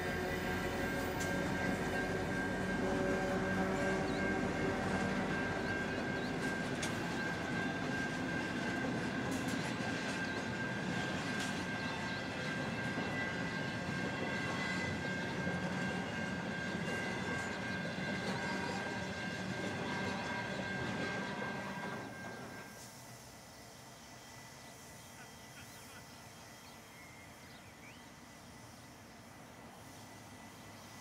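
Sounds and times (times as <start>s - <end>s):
freight train wagons rumbling past: 0.0s - 31.0s.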